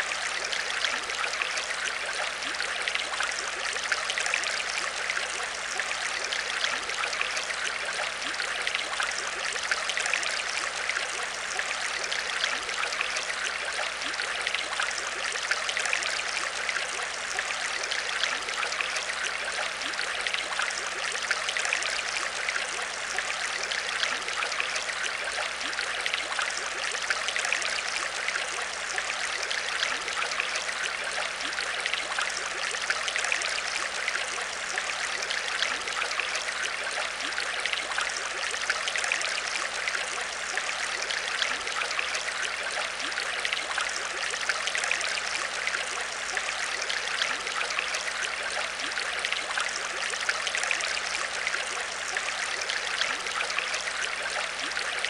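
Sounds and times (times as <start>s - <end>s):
aquarium water trickling and bubbling: 0.0s - 55.0s.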